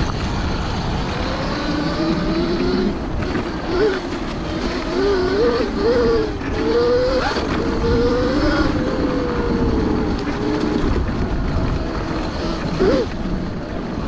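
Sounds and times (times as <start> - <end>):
electric motorbike motor whining: 0.0 - 14.0
wind and ride noise: 0.0 - 14.0.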